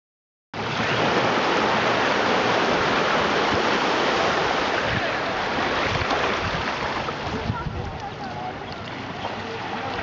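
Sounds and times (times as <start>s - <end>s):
ocean surf rushing: 0.6s - 10.0s
waves washing over sand: 0.6s - 10.0s.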